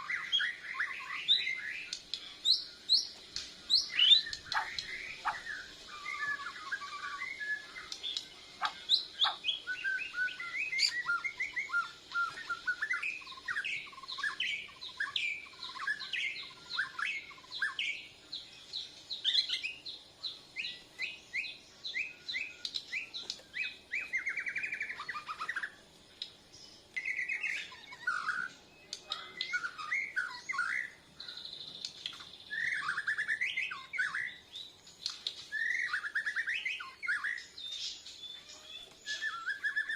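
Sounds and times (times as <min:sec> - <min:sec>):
bird whistling and trilling song: 0:00.0 - 0:39.9.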